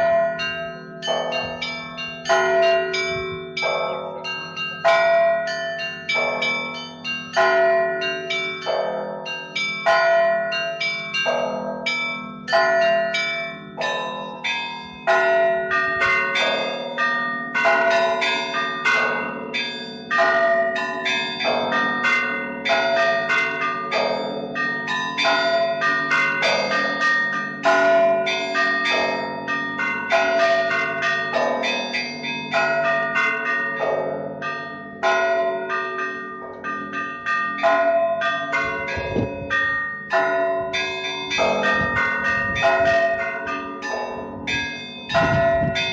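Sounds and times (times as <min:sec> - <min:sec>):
hum of large bells: 0:00.0 - 0:45.9
small church bells pealing: 0:00.0 - 0:45.9.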